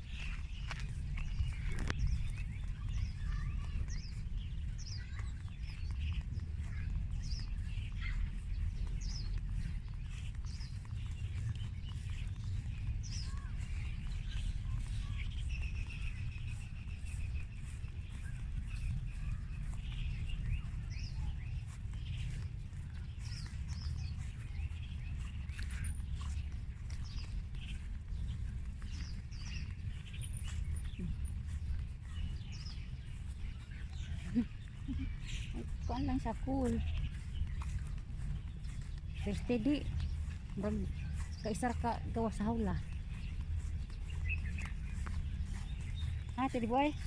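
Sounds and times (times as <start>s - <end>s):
small birds chirping: 0.0s - 47.0s
steady low rumble: 0.0s - 47.0s.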